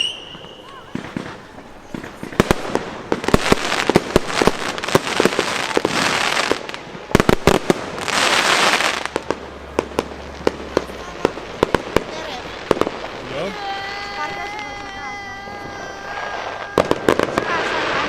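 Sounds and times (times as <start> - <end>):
fireworks bangs and pops: 0.0 - 18.0
fireworks crackling: 0.0 - 18.0.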